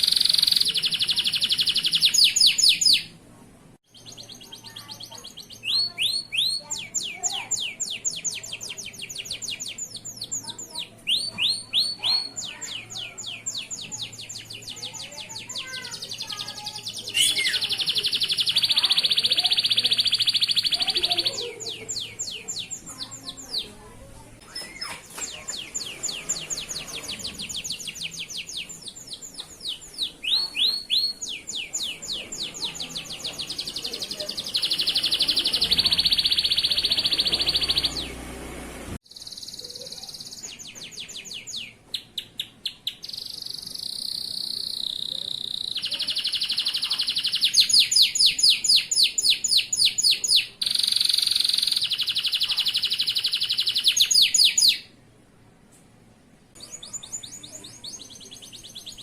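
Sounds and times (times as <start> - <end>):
canary singing trills: 0.0 - 3.2, 3.9 - 55.0, 56.6 - 59.0.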